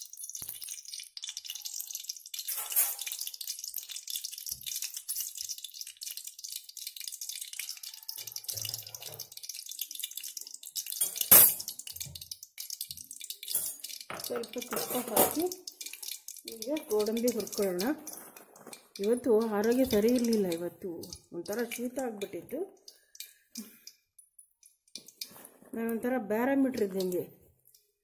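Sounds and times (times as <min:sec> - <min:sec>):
ghee crackling and spitting: 0:00.0 - 0:25.6.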